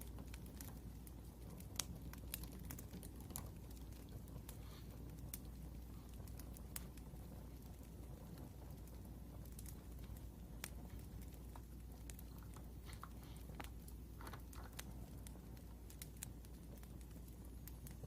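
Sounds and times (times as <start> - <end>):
steady low hum: 0.0 - 18.0
wood fire crackling: 0.0 - 18.0.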